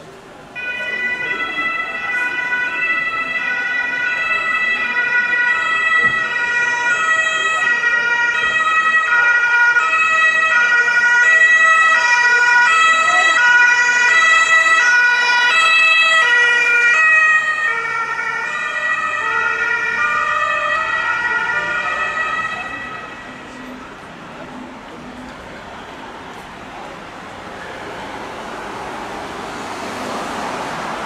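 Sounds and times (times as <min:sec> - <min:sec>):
two-tone ambulance siren: 0:00.6 - 0:26.4.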